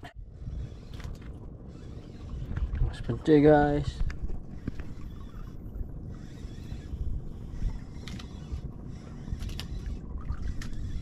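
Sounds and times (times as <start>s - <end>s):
sea: 0.0s - 11.0s
wind: 0.0s - 11.0s.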